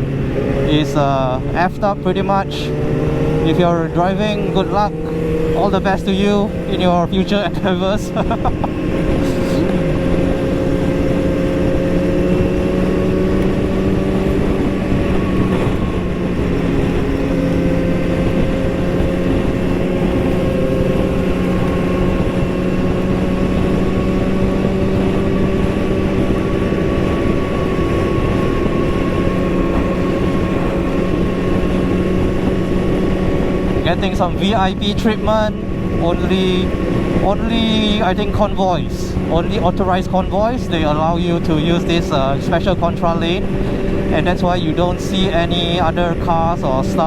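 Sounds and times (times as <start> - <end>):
motorcycle engine cruising: 0.0 - 47.0
road noise: 0.0 - 47.0
rushing wind: 0.0 - 47.0.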